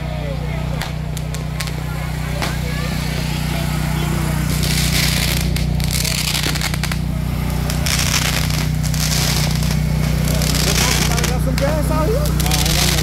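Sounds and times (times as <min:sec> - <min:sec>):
fireworks hissing: 0:00.0 - 0:13.0
steady low hum: 0:00.0 - 0:13.0
crackling pops: 0:00.7 - 0:02.8, 0:04.5 - 0:13.0.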